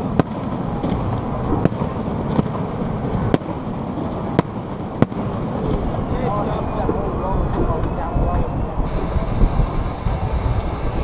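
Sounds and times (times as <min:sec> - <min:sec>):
fireworks bangs: 0:00.0 - 0:11.0
low background rumble: 0:00.0 - 0:11.0.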